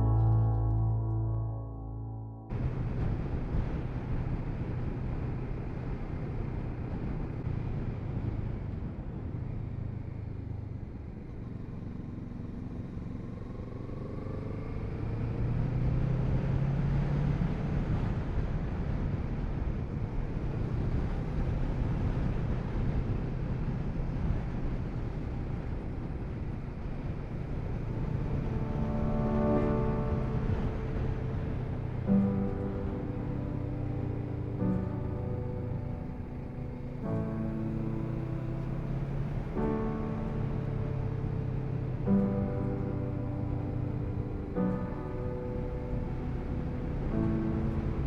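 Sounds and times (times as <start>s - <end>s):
road and wind noise: 2.5s - 48.0s.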